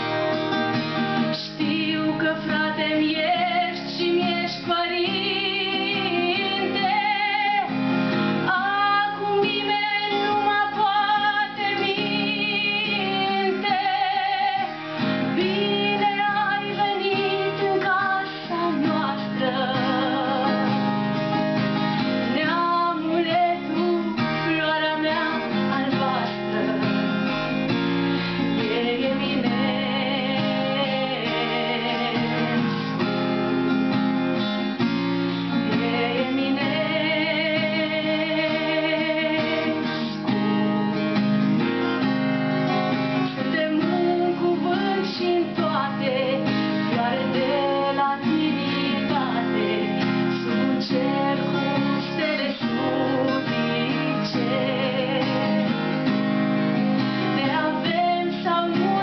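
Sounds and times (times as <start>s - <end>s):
acoustic guitar: 0.0s - 59.0s
woman singing: 1.2s - 33.0s, 35.4s - 41.7s, 43.2s - 59.0s.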